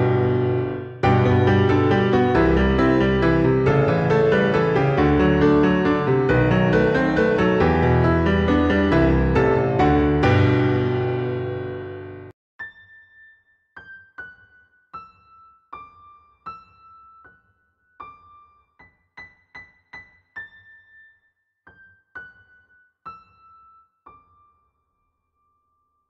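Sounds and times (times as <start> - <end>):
slow solo piano music: 0.0 - 12.9, 13.8 - 21.1, 21.7 - 24.7.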